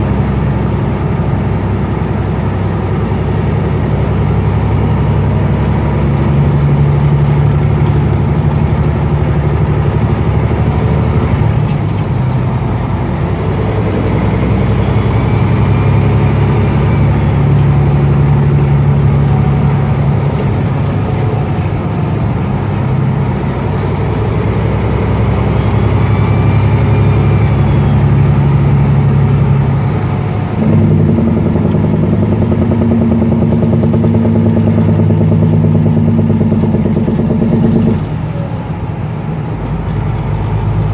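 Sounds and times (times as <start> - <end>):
turbocharger whistle: 0.0 - 7.6, 9.6 - 11.8, 13.3 - 21.9, 23.4 - 38.7
diesel truck engine running: 0.0 - 40.9.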